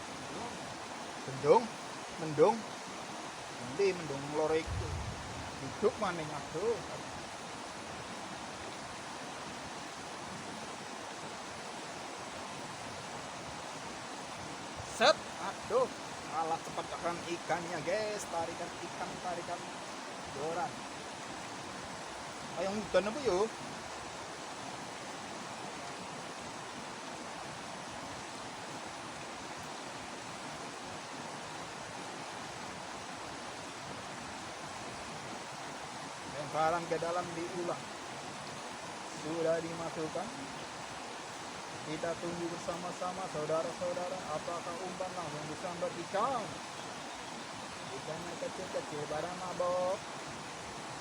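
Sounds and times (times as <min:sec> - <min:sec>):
stream water rushing: 0:00.0 - 0:51.0.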